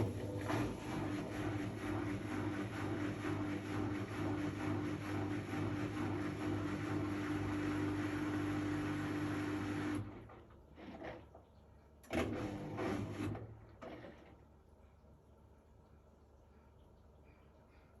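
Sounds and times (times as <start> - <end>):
washing machine running: 0.0 - 14.8.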